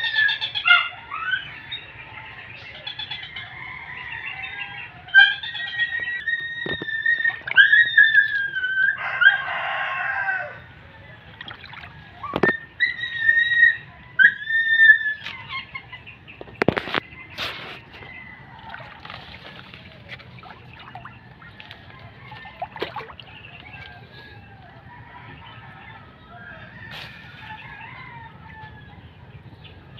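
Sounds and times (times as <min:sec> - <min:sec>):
birds calling: 0:00.0 - 0:29.9.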